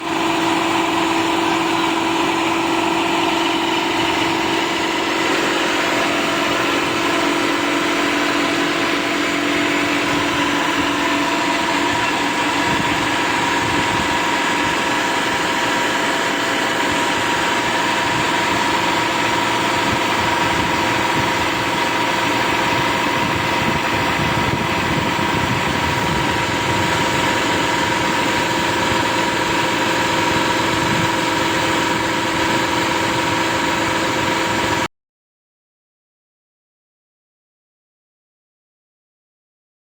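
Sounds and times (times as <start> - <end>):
combine harvester machinery drone: 0.0 - 34.9.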